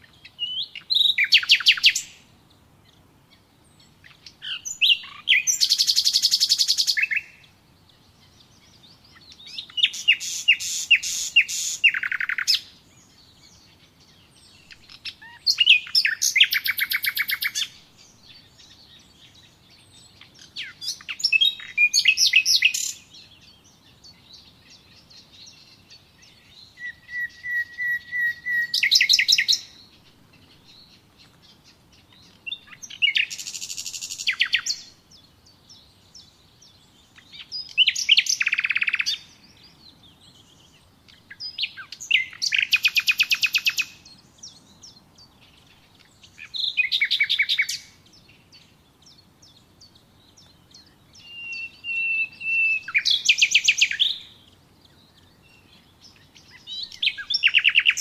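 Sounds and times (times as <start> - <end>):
songbird singing with trills: 0.0 - 58.0.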